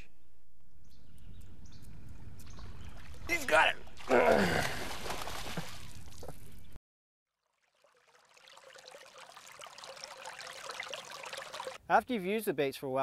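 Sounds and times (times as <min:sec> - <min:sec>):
water surface ambience: 0:01.4 - 0:11.8.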